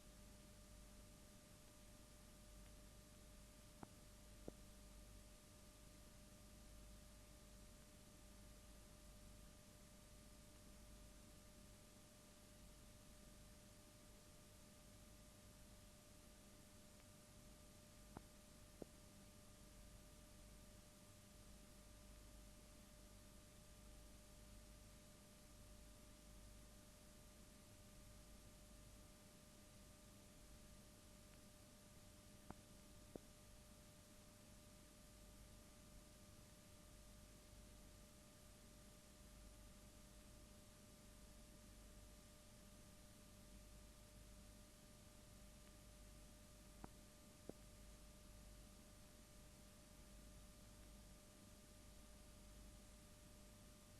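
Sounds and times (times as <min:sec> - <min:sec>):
faint electrical hum and hiss: 0:00.0 - 0:53.9.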